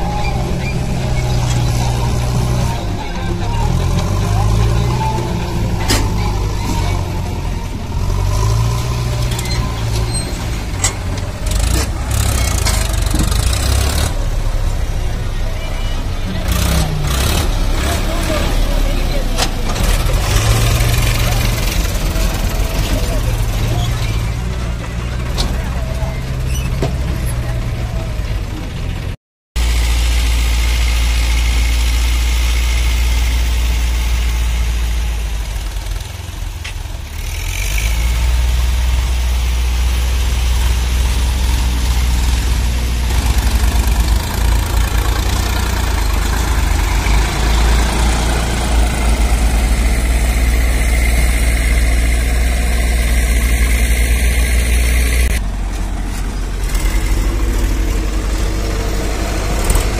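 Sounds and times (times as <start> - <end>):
tractor diesel engine rumbling: 0.0 - 59.9.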